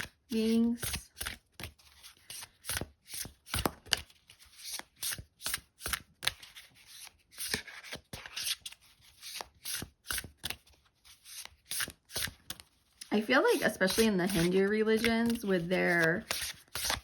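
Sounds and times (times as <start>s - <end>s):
cards being shuffled: 0.0s - 17.0s.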